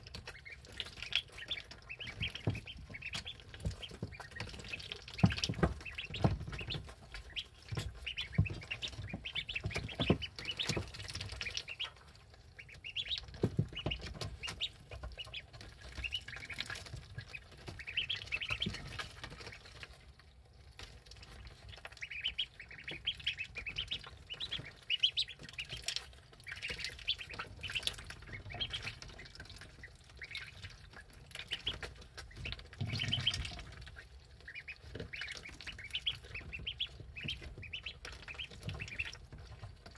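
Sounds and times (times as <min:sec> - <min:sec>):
bills knocking in a water dish: 0:00.0 - 0:20.0, 0:20.8 - 0:39.9
ducklings peeping: 0:00.0 - 0:39.9.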